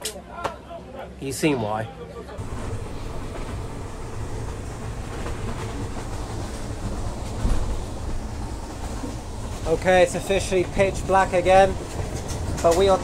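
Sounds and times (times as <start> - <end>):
train carriage rumbling and rattling: 2.4 - 13.0.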